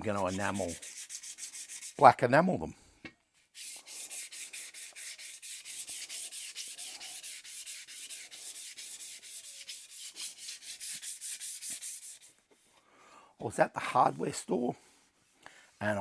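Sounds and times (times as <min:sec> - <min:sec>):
hand sanding strokes: 0:00.0 - 0:02.2, 0:03.4 - 0:12.8, 0:13.9 - 0:16.0.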